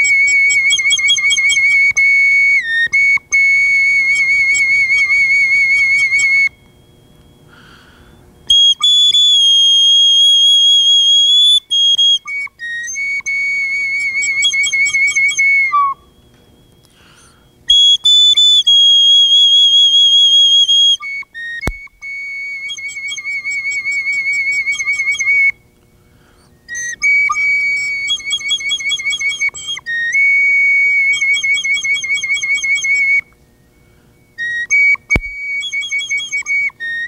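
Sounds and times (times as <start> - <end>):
solo flute long notes: 0.0 - 16.2, 17.2 - 37.0.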